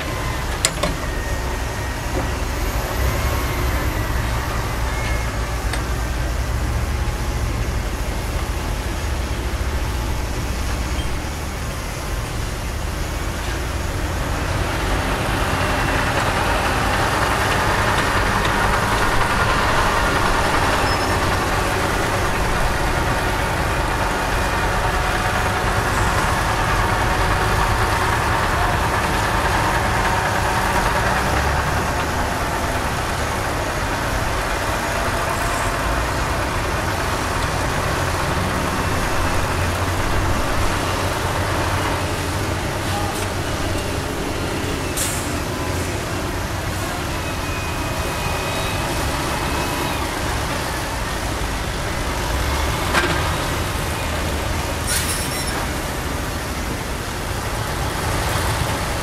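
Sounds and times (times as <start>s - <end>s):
diesel construction machinery running: 0.0s - 59.0s
rushing noise: 0.0s - 59.0s.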